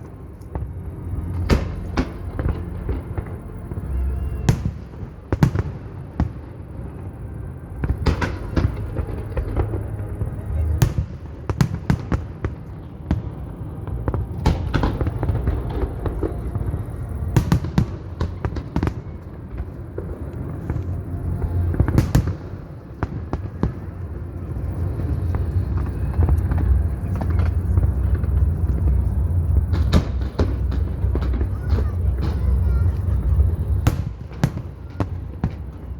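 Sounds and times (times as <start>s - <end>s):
steady low rumble: 0.0s - 35.9s.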